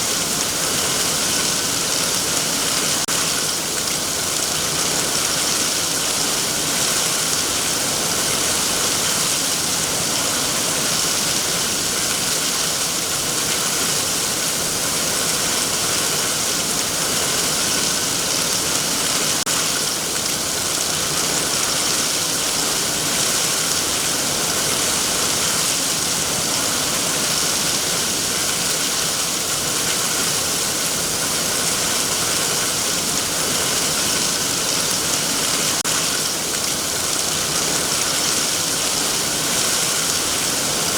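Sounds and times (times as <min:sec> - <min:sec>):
heavy rain falling on trees: 0:00.0 - 0:40.9.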